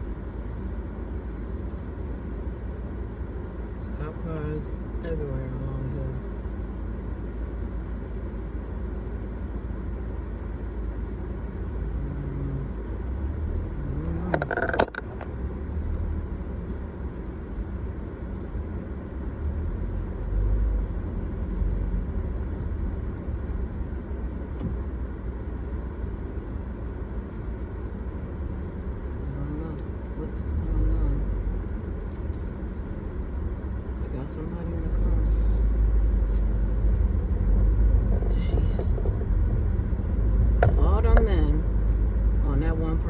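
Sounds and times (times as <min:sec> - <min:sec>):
car engine rumbling: 0:00.0 - 0:43.0.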